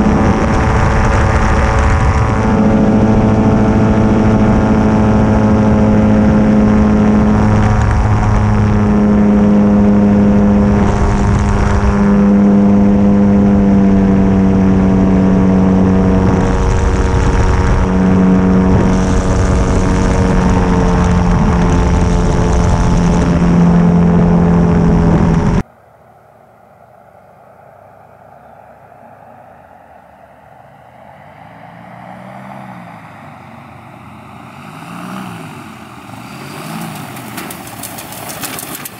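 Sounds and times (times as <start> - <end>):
aircraft engine drone: 0.0 - 38.9
distant aircraft engine: 0.0 - 38.9.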